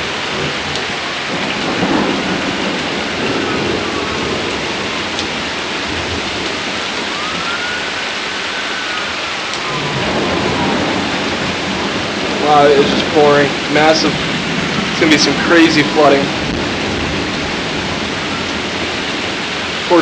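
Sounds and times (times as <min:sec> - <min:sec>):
heavy rain pouring: 0:00.0 - 0:20.0
thunder rumbling: 0:00.0 - 0:20.0.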